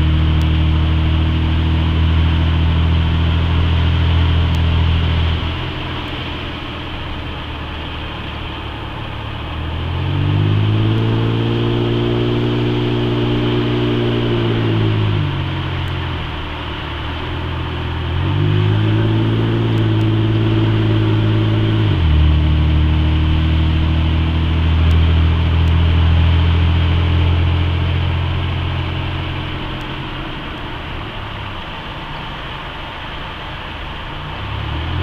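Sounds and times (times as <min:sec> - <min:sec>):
car engine from cabin: 0:00.0 - 0:35.0
road and tyre noise: 0:00.0 - 0:35.0.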